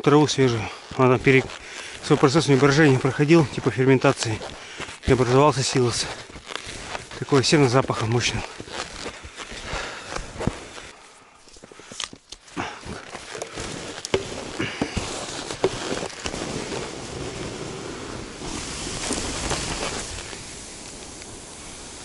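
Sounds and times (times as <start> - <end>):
skis hissing over snow: 0.3 - 11.7, 12.5 - 22.0
clicks and crackles: 0.7 - 17.5, 18.5 - 21.3.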